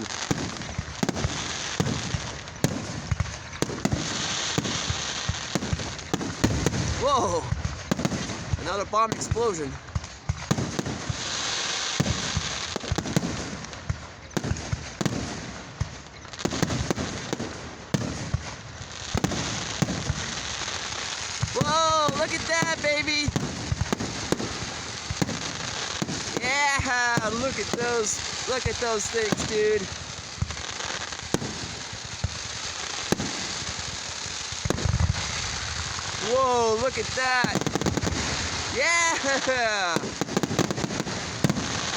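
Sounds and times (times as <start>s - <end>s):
fireworks bangs: 0.0s - 41.9s
fireworks crackle: 0.0s - 41.9s.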